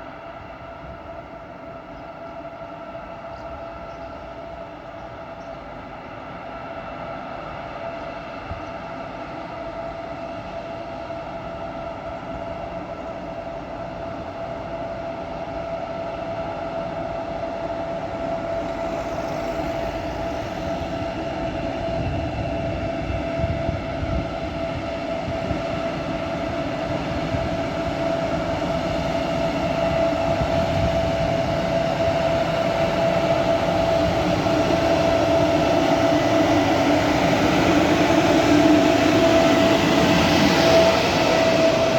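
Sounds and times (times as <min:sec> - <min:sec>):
electric locomotive whine and rumble: 0:00.0 - 0:41.9.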